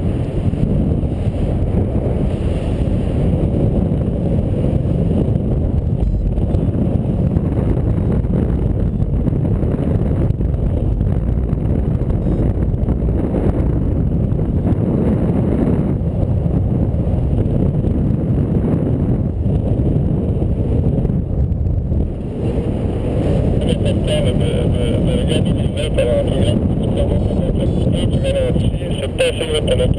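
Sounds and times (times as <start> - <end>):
wind rumbling over microphone: 0.0 - 29.9.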